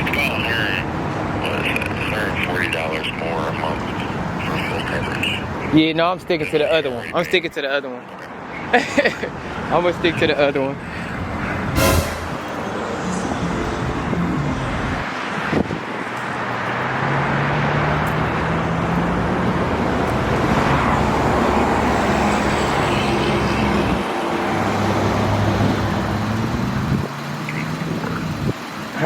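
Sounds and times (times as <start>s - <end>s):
road noise in moving car: 0.0s - 29.0s.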